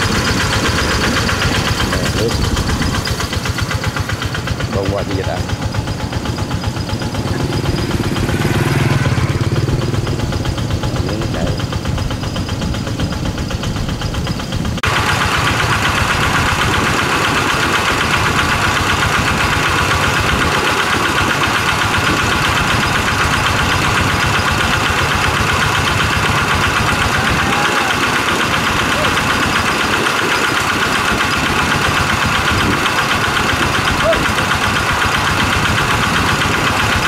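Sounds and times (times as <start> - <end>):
diesel engine running steadily: 0.0 - 37.0.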